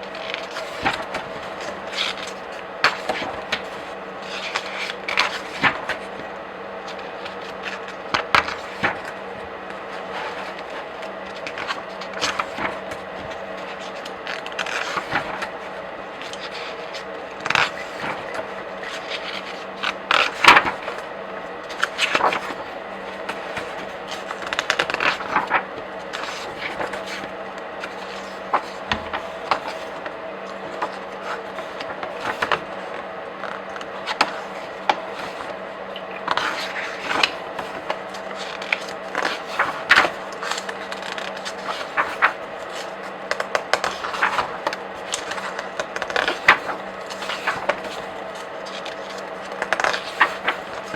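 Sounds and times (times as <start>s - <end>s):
pages flipping: 0.1s - 50.9s.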